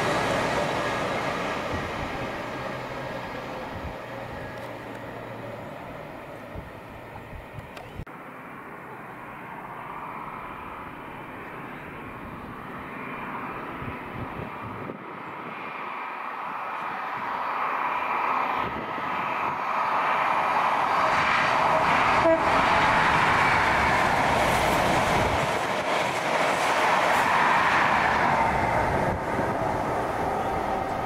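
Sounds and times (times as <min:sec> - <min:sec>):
diesel train passing at speed: 0:00.0 - 0:07.8, 0:08.4 - 0:31.0.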